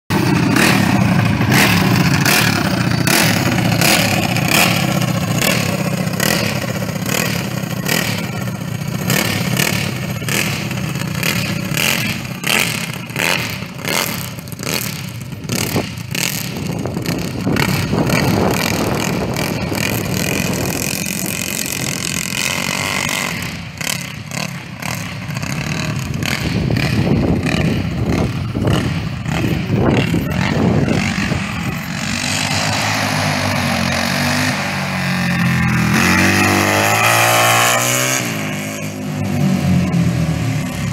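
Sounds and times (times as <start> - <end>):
racing kart engine: 0.1 - 40.9.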